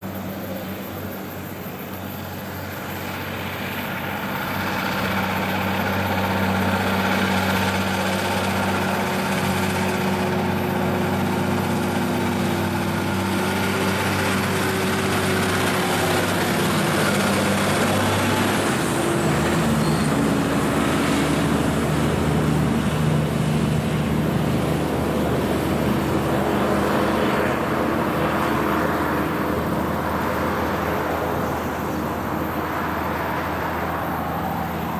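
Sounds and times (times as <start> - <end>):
diesel truck engine under load: 2.8 - 34.9.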